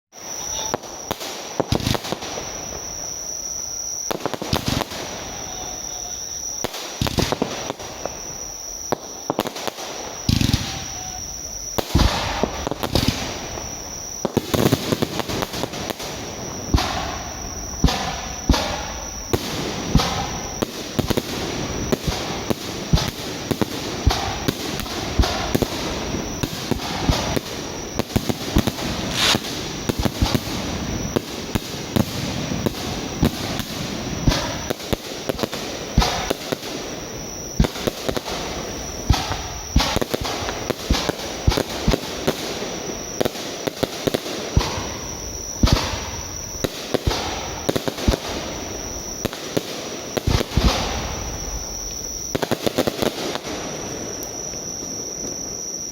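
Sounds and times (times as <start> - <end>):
fireworks bangs: 0.1 - 55.9
fireworks crackling: 0.1 - 55.9.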